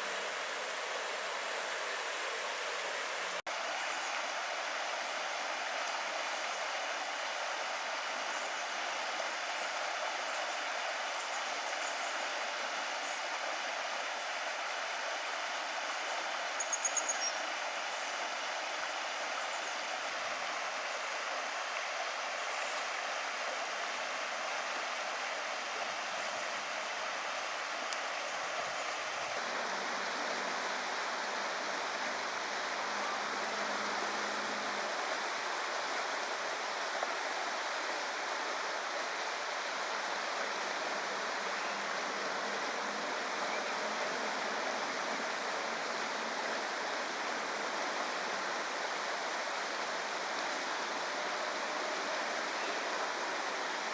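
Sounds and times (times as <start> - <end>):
river flowing over stones: 0.0 - 53.9.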